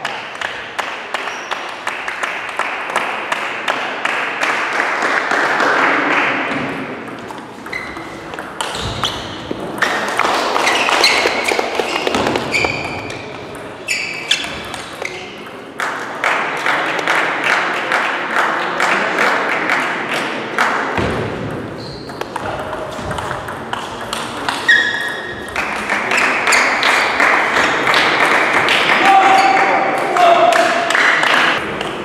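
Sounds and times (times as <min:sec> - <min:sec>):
voices in a hall: 0:00.0 - 0:32.0.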